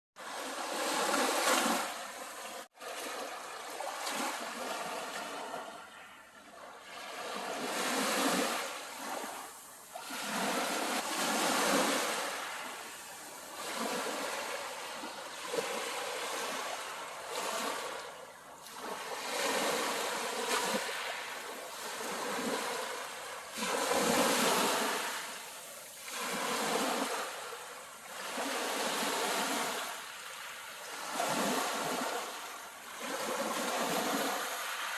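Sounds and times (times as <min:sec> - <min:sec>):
sea waves breaking: 0:00.2 - 0:34.9.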